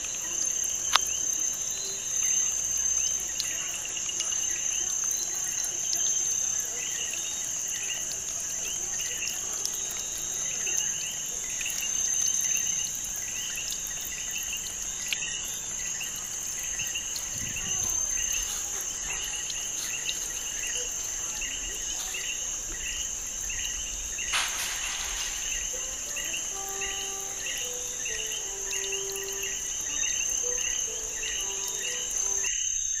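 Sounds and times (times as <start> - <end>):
cricket chirping: 0.0 - 33.0.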